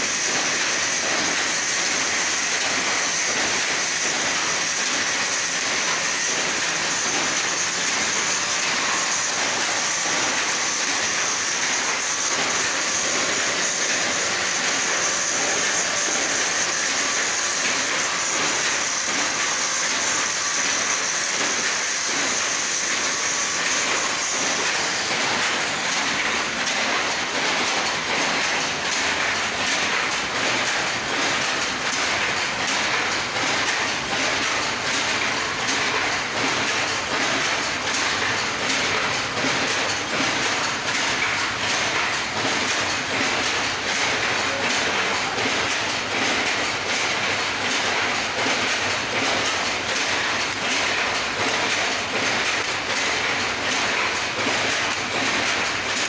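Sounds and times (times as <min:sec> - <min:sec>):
power looms clattering: 0:00.0 - 0:56.0.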